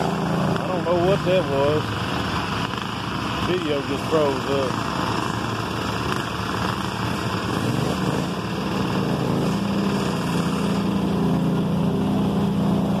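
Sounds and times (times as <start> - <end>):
garden tractor engines running: 0.0 - 13.0.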